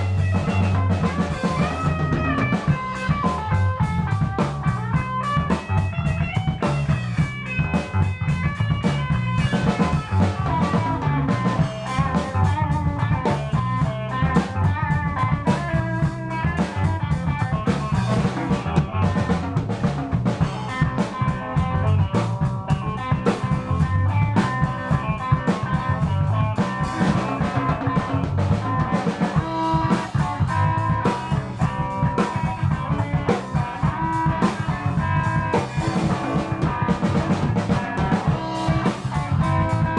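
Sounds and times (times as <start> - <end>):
drum kit: 0.0 - 39.9
electric guitar lines: 0.0 - 39.9.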